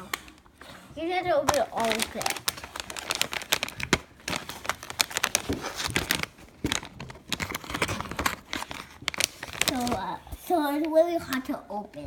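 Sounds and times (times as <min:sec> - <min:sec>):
plastic packaging crinkling and tearing: 0:00.0 - 0:11.4.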